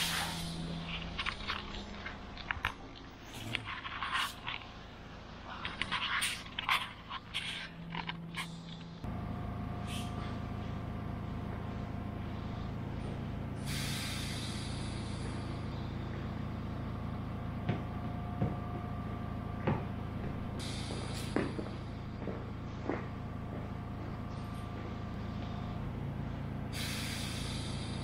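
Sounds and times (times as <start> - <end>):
ventilation and machinery drone: 0.0 - 28.0.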